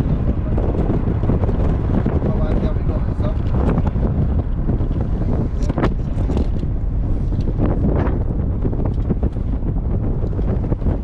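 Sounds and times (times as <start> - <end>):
low steady travel rumble: 0.0 - 11.0
wind buffeting microphone: 0.0 - 11.0.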